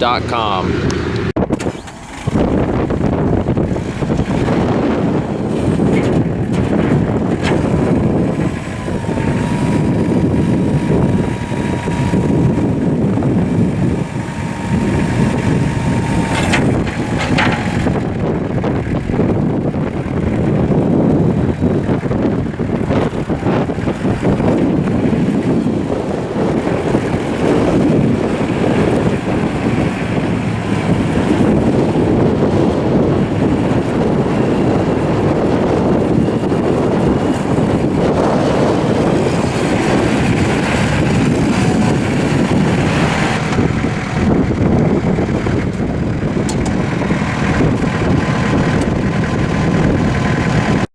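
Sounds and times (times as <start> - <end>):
tractor diesel engine running: 0.0 - 50.9
wind noise on microphone: 0.0 - 50.9.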